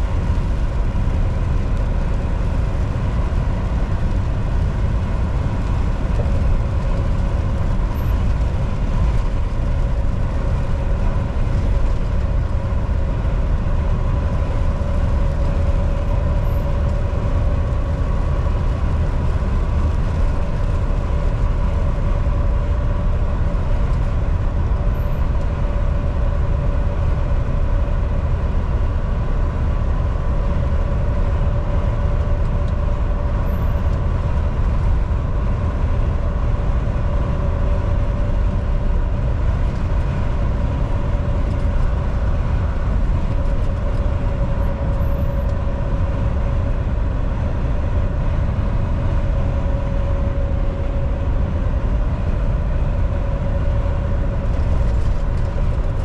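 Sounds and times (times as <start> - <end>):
faint constant whine: 0.0 - 56.0
truck engine and road rumble: 0.0 - 56.0.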